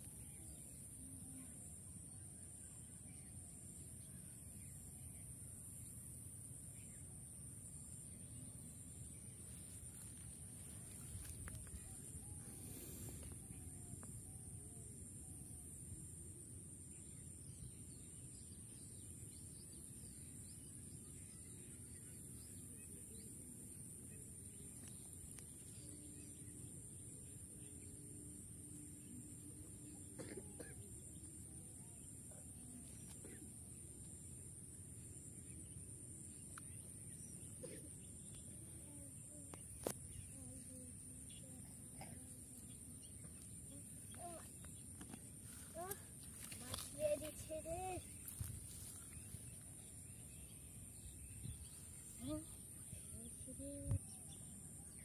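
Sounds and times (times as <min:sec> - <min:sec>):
faint bird chirps: 0:00.0 - 0:55.0
insect drone: 0:00.0 - 0:55.0
steady high-pitched hiss: 0:00.0 - 0:55.0.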